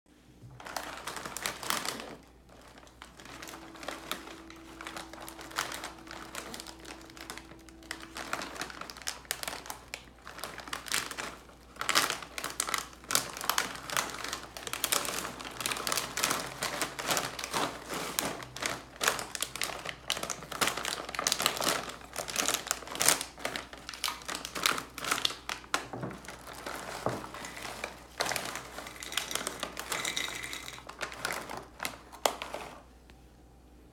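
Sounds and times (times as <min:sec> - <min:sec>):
snack bag crinkling: 0:00.5 - 0:32.9
crackers pouring into bowl: 0:00.6 - 0:32.9.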